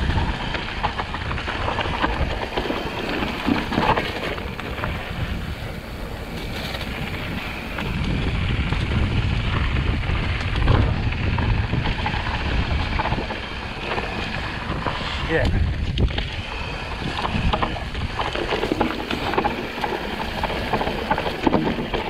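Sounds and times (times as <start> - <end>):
bike rattles and clicks: 0.0 - 22.0
bike tyre rumble on dirt: 0.0 - 22.0
wind buffeting microphone: 0.0 - 22.0.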